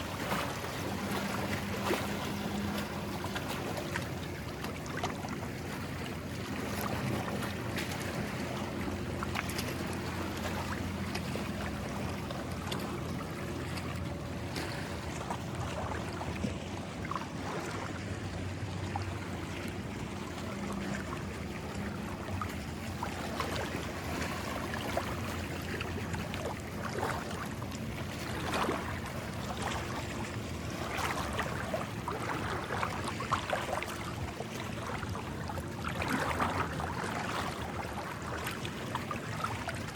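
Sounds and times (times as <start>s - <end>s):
small waves washing on shore: 0.0s - 39.9s
wind: 0.0s - 39.9s.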